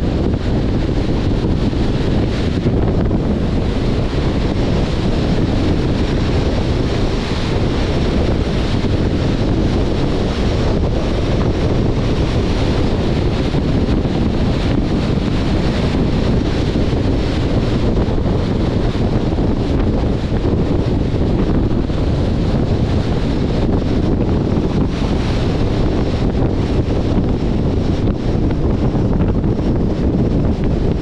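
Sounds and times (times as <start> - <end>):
road and tyre noise: 0.0 - 31.0
wind rush on microphone: 0.0 - 31.0.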